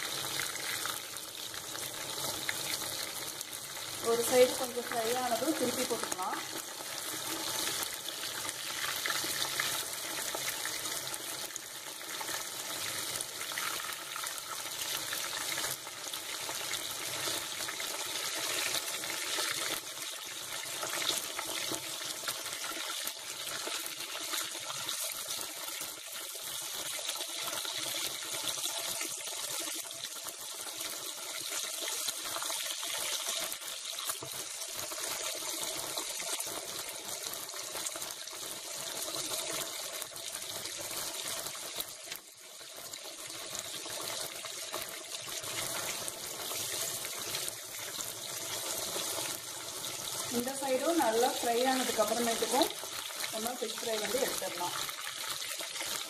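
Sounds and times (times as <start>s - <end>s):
fish frying in hot oil: 0.0s - 56.0s.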